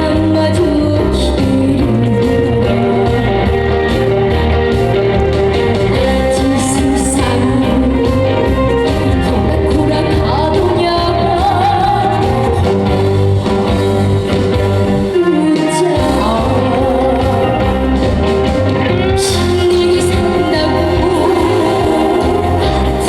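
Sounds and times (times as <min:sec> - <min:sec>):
person singing: 0:00.0 - 0:04.4, 0:05.7 - 0:23.0
trot song with band: 0:00.0 - 0:23.0.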